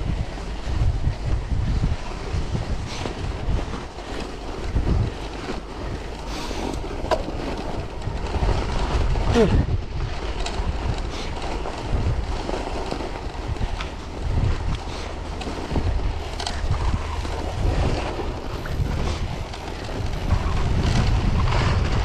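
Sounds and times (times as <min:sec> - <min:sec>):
bike clicks and knocks: 0:00.0 - 0:22.0
bike tyres on packed snow: 0:00.0 - 0:22.0
wind rumbling on microphone: 0:00.0 - 0:22.0.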